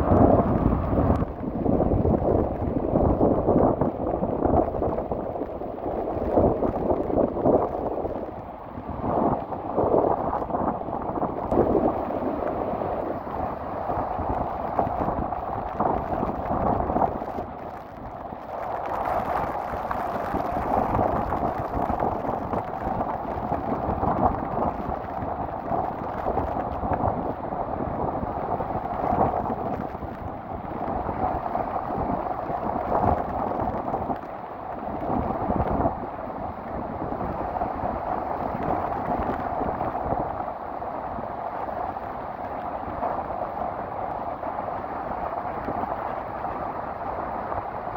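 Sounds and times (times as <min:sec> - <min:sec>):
rain: 0:00.0 - 0:47.9
rough sea surf: 0:00.0 - 0:47.9
wind buffeting microphone: 0:00.0 - 0:47.9.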